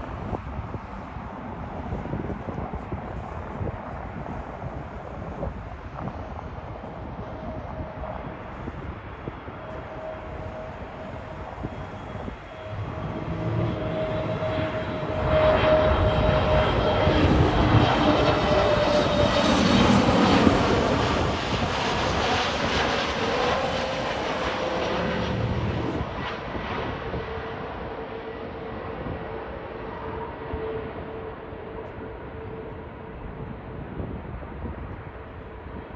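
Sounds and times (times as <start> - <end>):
jet airliner passing overhead: 0.0 - 35.9
jet engine whine: 0.0 - 35.9.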